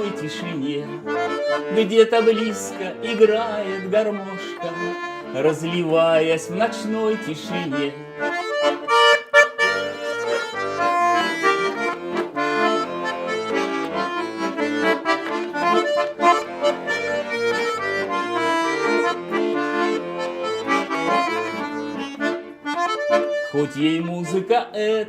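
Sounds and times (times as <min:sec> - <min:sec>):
accordion playing folk melody: 0:00.0 - 0:25.0.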